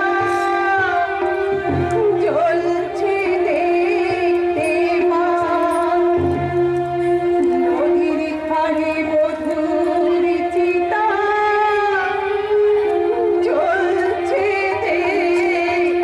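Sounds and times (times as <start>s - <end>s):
woman singing slow song: 0.0s - 16.0s.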